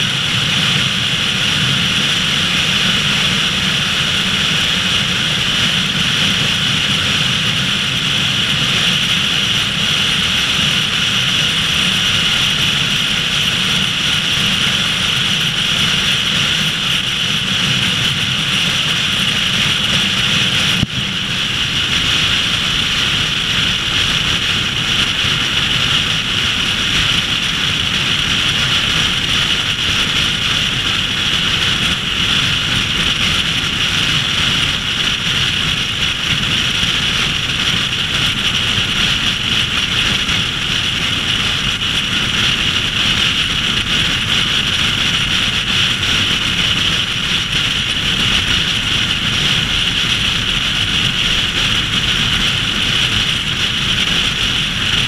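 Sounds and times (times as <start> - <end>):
low road rumble: 0.0 - 55.0
wind and tyre noise: 0.0 - 55.0.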